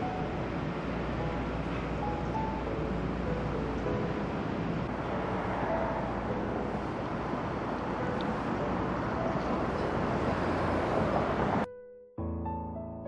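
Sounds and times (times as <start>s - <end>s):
road traffic rushing: 0.0s - 11.7s.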